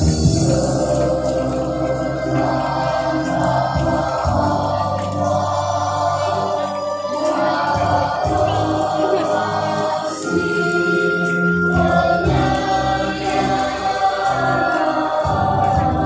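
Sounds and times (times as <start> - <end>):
choir singing with music: 0.0 - 16.0.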